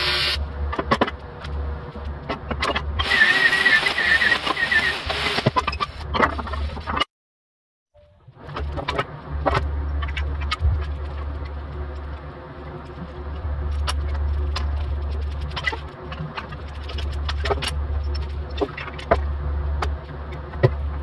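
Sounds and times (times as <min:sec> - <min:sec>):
low machine hum: 0:00.0 - 0:05.4, 0:08.0 - 0:21.0.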